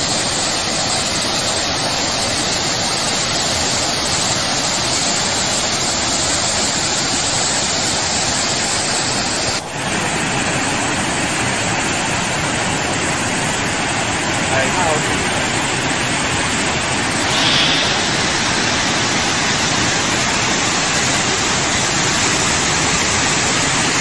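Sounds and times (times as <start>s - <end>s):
floodwater rushing down spillway: 0.0s - 24.0s.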